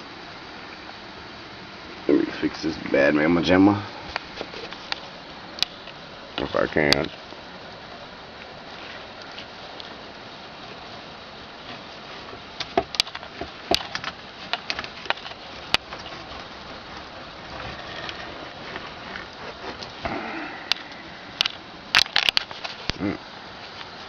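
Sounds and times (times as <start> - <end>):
campfire crackling and popping: 4.0 - 24.0.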